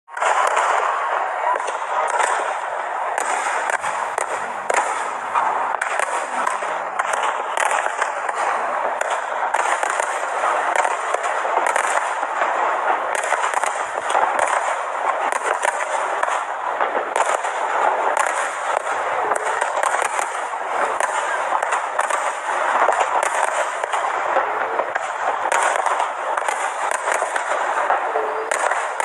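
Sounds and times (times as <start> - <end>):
fireworks bangs and crackles: 0.1 - 29.0.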